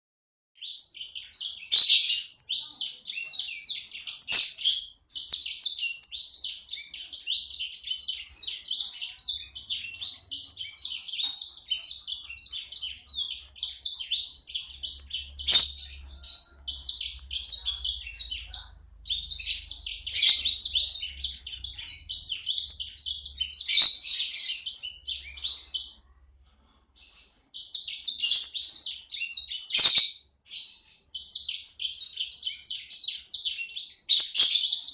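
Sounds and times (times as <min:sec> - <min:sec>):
songbird chirping and twittering: 0:00.6 - 0:34.9.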